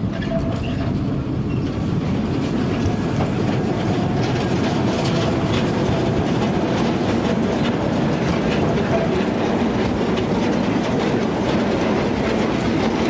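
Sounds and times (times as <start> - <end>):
train rumbling: 0.0 - 13.0
wagon wheels clacking on rails: 0.0 - 13.0.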